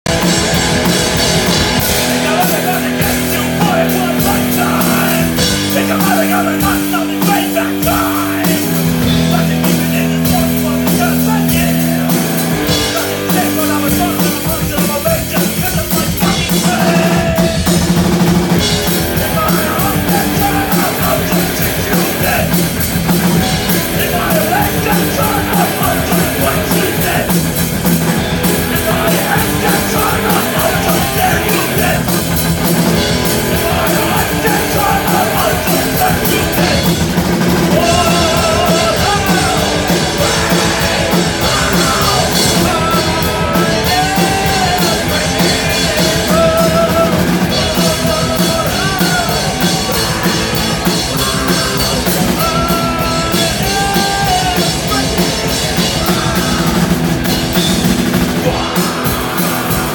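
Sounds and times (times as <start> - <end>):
drum kit: 0.0 - 59.9
electric guitars: 0.0 - 59.9
rock band playing live: 0.0 - 59.9.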